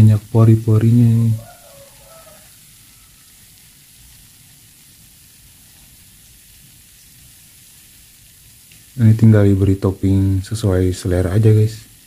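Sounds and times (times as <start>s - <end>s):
batter sizzling hiss: 0.0s - 12.0s.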